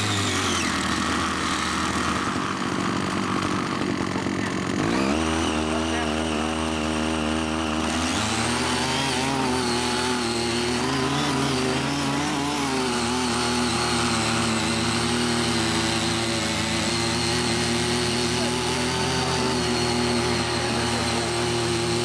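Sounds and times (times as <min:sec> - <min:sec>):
rotary tiller engine running: 0:00.0 - 0:22.0.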